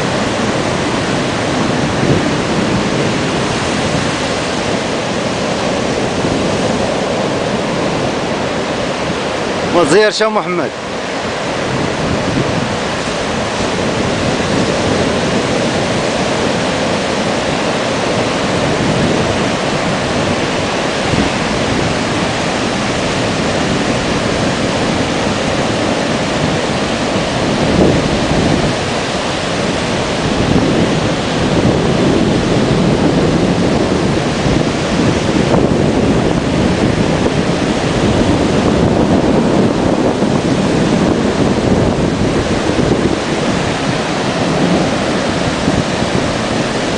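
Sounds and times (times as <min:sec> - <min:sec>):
sea surf rushing: 0:00.0 - 0:46.9
wind buffeting microphone: 0:00.0 - 0:46.9.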